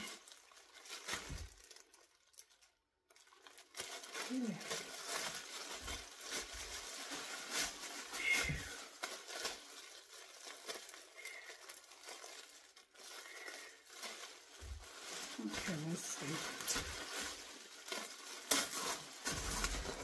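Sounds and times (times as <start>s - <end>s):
plastic bag rustling and crinkling: 0.0s - 20.0s.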